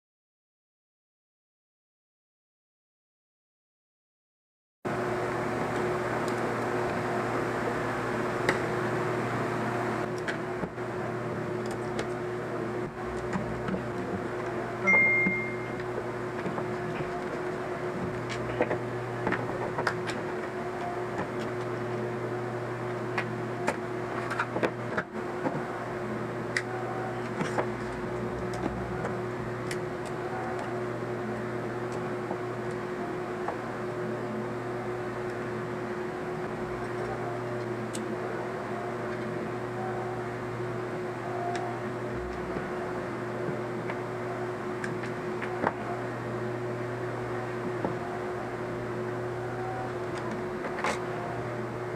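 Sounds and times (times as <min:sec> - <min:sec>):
machine hum: 0:04.9 - 0:51.9.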